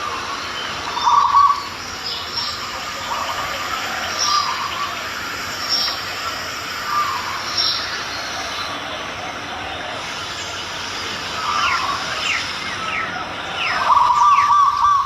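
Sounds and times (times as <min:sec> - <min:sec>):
birds chirping and calling: 0:00.0 - 0:15.0
steady background hiss: 0:00.0 - 0:15.0.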